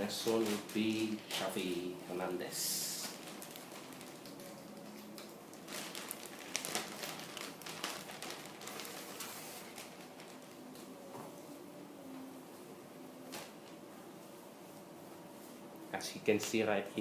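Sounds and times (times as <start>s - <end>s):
fabric rustling and crinkling: 0.0s - 15.8s.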